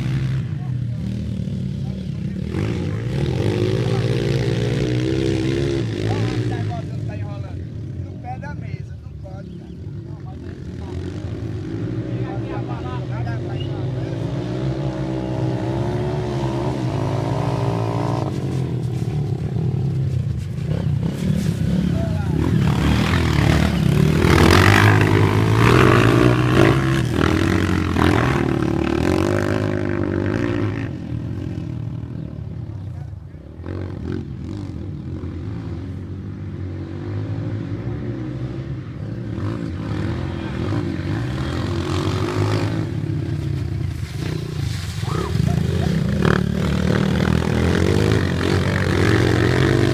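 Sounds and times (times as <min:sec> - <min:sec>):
dirt bike engine revving: 0:00.0 - 0:08.2, 0:09.4 - 0:32.9, 0:33.6 - 0:49.9.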